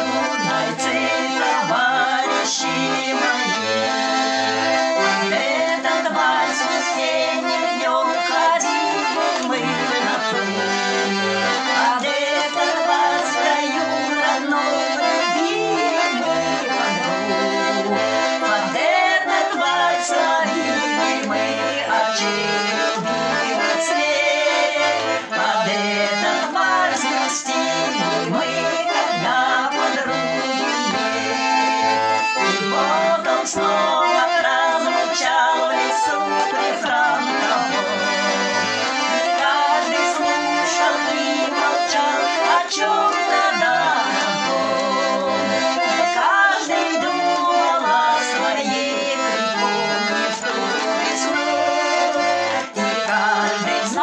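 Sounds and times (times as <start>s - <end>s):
button accordion: 0.0s - 54.0s
women singing: 0.0s - 54.0s.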